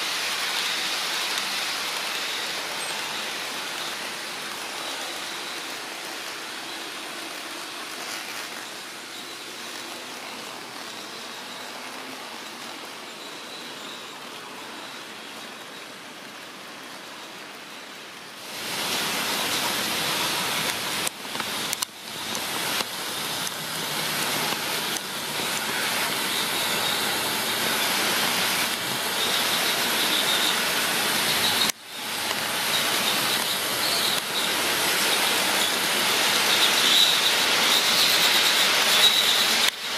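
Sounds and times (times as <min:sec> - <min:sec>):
model train motors whirring: 0:00.0 - 0:39.9.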